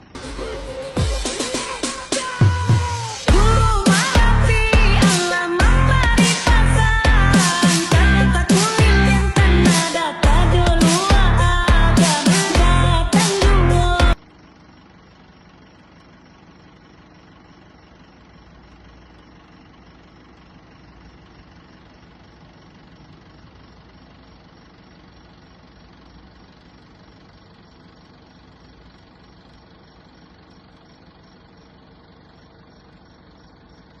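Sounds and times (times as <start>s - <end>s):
bus engine idling: 0.0s - 34.0s.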